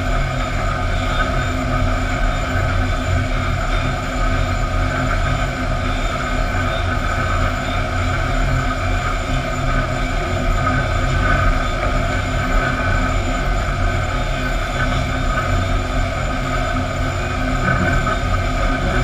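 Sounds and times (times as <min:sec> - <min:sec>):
conveyor machinery running: 0:00.0 - 0:19.0.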